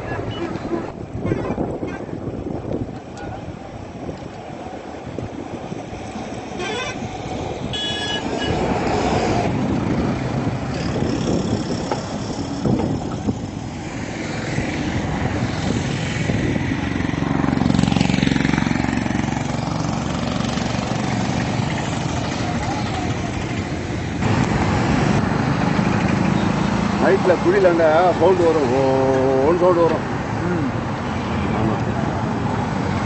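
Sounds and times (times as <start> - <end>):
road traffic passing: 0.0 - 33.0
loud vehicle passing: 5.4 - 33.0.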